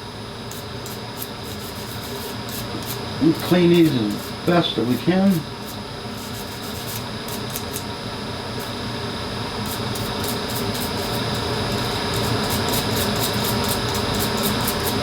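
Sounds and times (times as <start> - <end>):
scratchy scrubbing of clipper blade: 0.5 - 7.9, 9.6 - 15.0.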